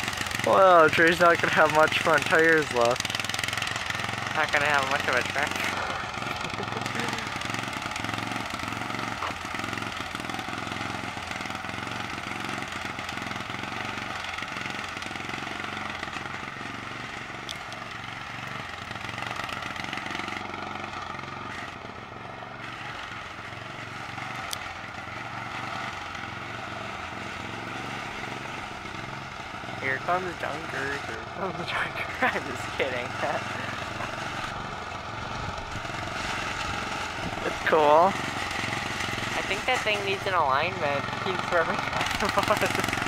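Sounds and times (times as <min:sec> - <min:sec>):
lawn tractor engine running: 0:00.0 - 0:43.0.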